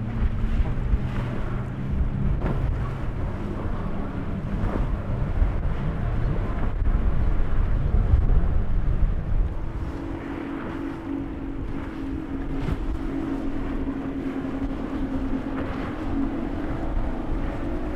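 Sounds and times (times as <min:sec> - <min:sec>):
boat hulls splashing through water: 0:00.0 - 0:17.9
outboard motor drone: 0:00.0 - 0:17.9
wind on microphone: 0:00.0 - 0:17.9.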